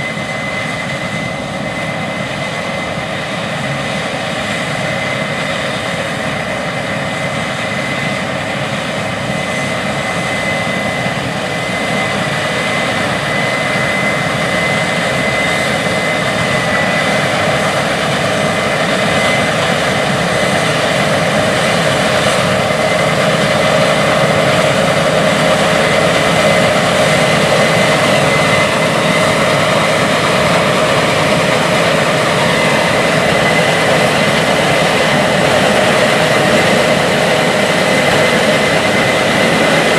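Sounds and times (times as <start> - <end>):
harvester engine and threshing drone: 0.0 - 39.9
high steady whine: 0.0 - 39.9.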